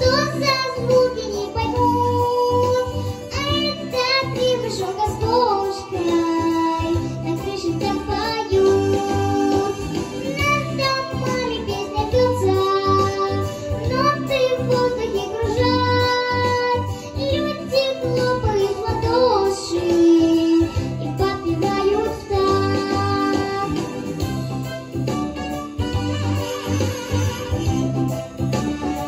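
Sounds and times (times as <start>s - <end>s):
girl singing: 0.0s - 24.0s
instrumental music with bass beat: 0.0s - 29.0s.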